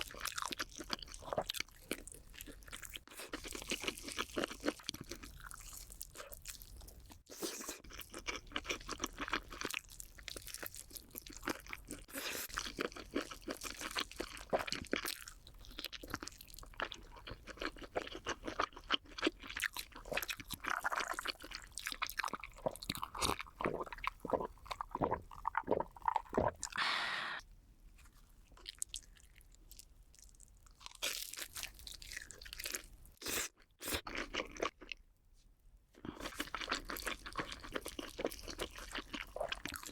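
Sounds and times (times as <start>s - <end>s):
crunchy chewing of snacks: 0.0s - 26.8s, 28.0s - 35.1s, 36.0s - 39.9s.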